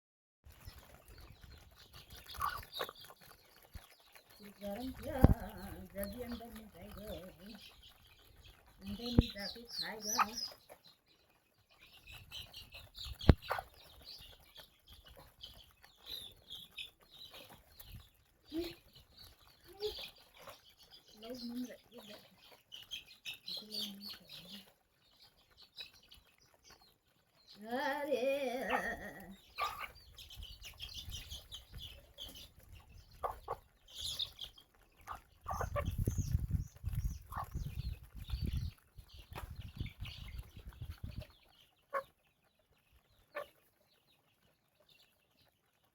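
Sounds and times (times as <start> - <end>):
chickens peeping and chirping: 0.5 - 45.9.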